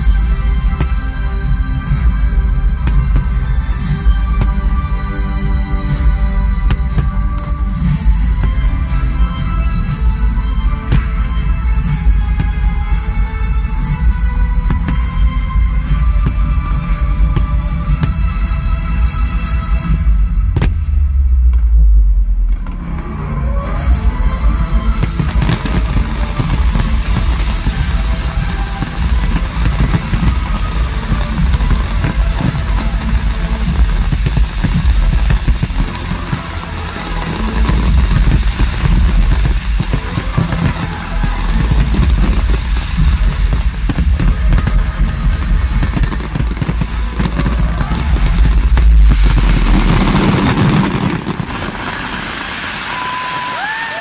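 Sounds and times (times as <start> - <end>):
fireworks bursts and crackles: 0.0 - 54.0
loud music: 0.0 - 54.0.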